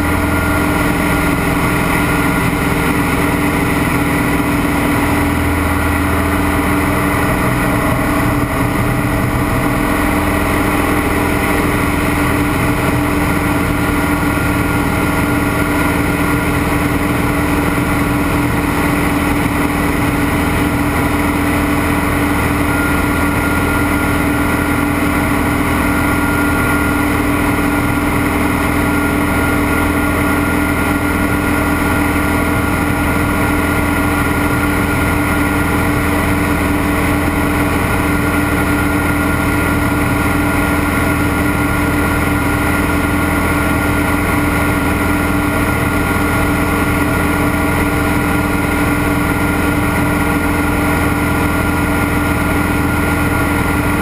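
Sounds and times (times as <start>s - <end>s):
propeller plane engine in flight: 0.0s - 54.0s.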